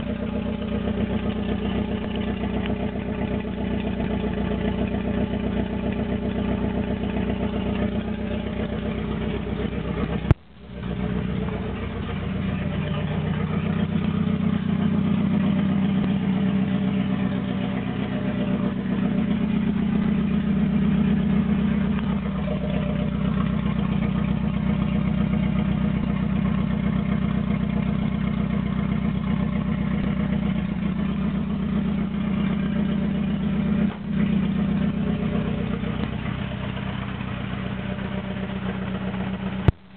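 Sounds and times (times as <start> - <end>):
unmuffled engine idling roughly: 0.0 - 39.9.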